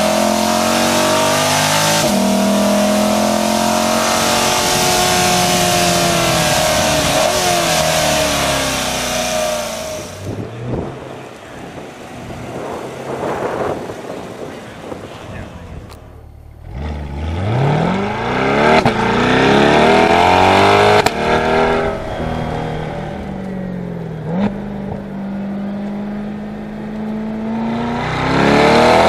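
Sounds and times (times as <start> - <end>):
car engine pulling hard: 0.0 - 29.0
low engine rumble: 2.0 - 27.6.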